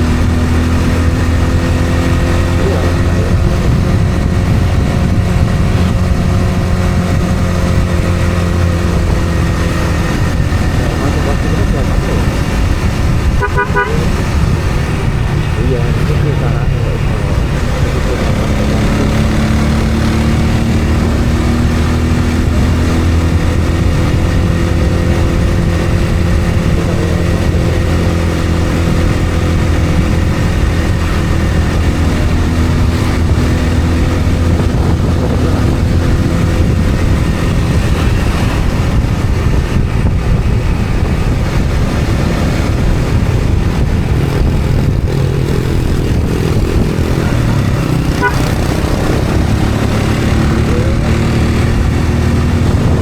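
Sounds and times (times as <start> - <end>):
road and wind noise: 0.0 - 53.0
vehicle engine running: 0.0 - 53.0.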